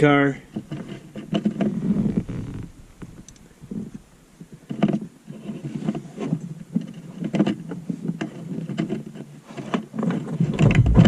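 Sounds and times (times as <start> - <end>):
hands knocking scraping and rustling: 0.5 - 11.0.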